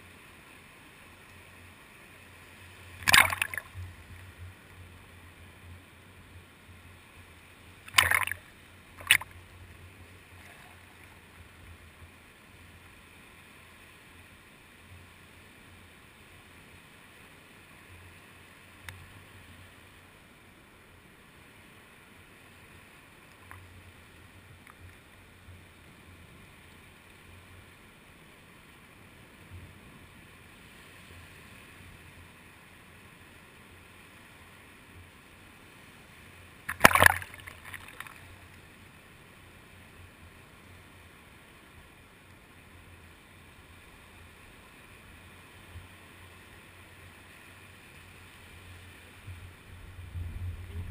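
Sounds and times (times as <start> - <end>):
muffled waves washing on shore: 0.0 - 50.9.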